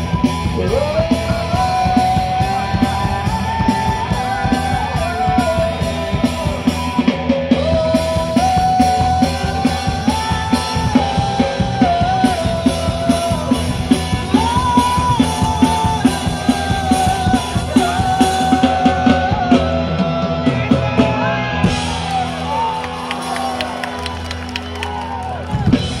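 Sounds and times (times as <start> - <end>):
person singing: 0.0 - 22.8
drum kit: 0.0 - 26.0
electric guitars: 0.0 - 26.0
live rock band playing: 0.0 - 26.0.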